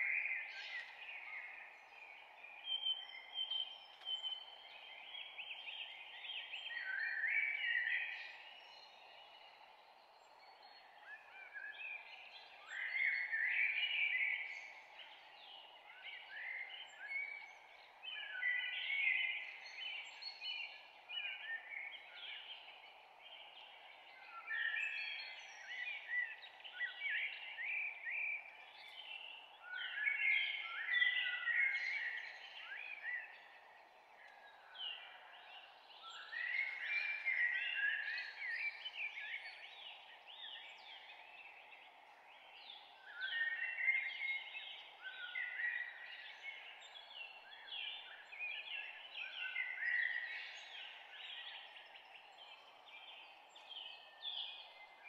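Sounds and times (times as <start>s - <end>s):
songbird whistled song: 0.0s - 55.0s.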